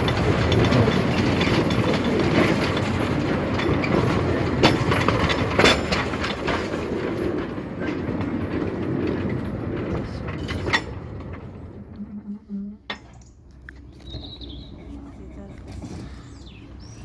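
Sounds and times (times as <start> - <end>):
train wheels clattering over rails: 0.0 - 12.3, 14.2 - 17.0.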